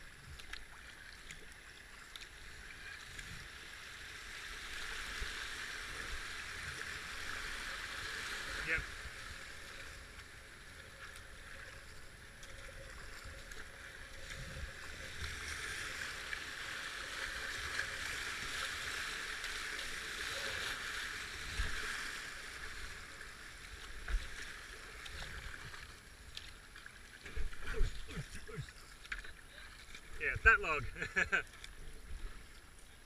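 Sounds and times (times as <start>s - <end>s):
paddle splashes: 0.0s - 33.0s.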